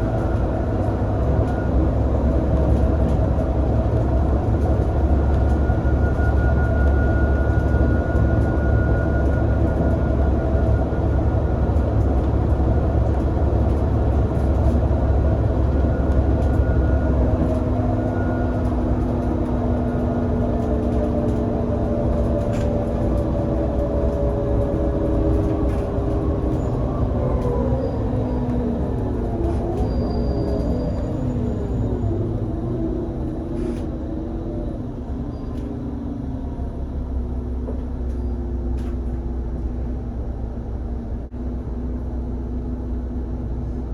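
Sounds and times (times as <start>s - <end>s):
droning whine: 0.0s - 40.6s
bus engine low rumble: 0.0s - 43.9s.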